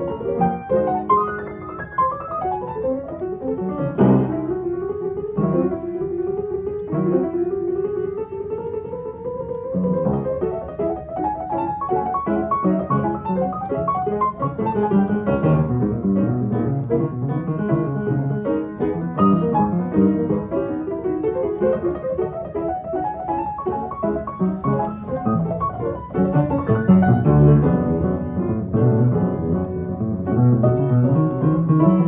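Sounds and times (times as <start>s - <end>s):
piano playing quick notes: 0.0s - 32.0s.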